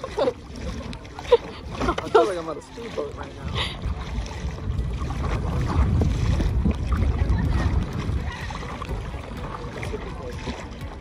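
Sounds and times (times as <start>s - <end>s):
water moving around board: 0.0s - 11.0s
wind rumbling on microphone: 0.0s - 11.0s.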